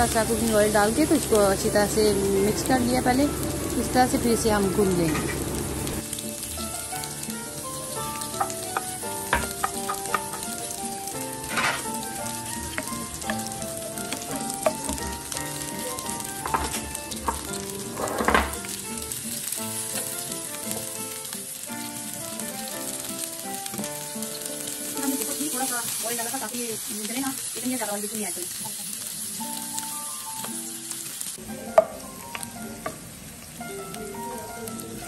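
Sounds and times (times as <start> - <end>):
soft melodic background music: 0.0 - 27.8, 29.4 - 35.0
hot oil sizzling: 0.0 - 35.0.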